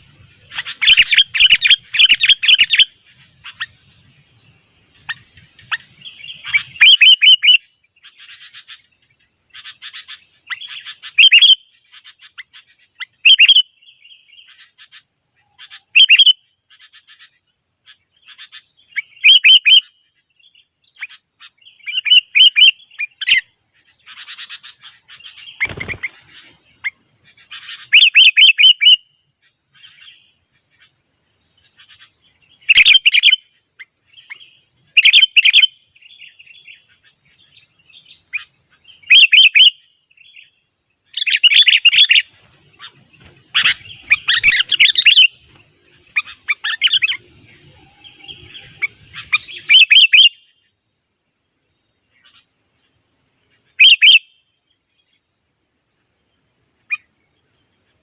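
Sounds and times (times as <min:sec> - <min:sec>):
soft bird calls: 0:00.0 - 0:50.8, 0:52.0 - 0:52.9, 0:53.5 - 0:55.3.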